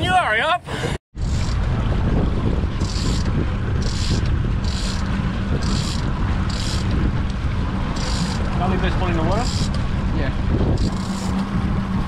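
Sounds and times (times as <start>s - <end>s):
outboard motors rumbling: 0.0s - 12.0s
wind buffeting microphone: 1.1s - 12.0s.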